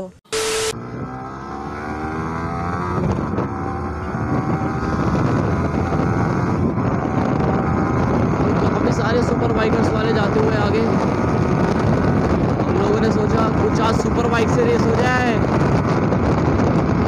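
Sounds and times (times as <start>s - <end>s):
motorcycle engine accelerating: 0.3s - 17.0s
wind rush on microphone: 2.0s - 17.0s.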